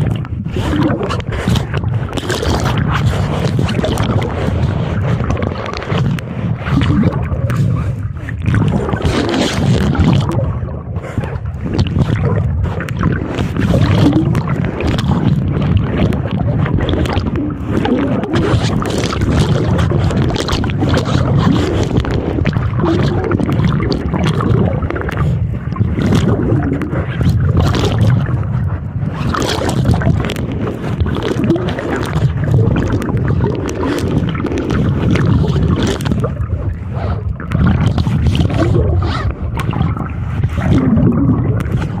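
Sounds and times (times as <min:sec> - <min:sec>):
choppy water splashing: 0:00.0 - 0:42.0
wind buffeting microphone: 0:00.0 - 0:42.0.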